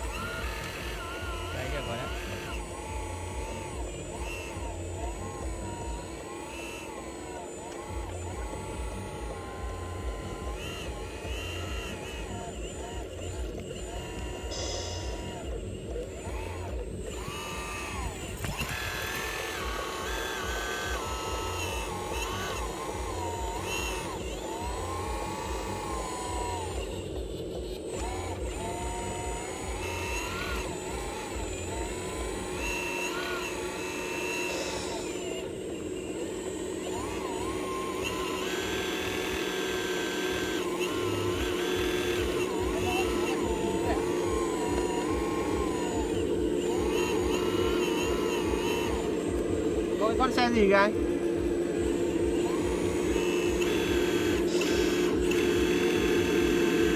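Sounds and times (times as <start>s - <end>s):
hydraulic pump whining: 0.0s - 56.9s.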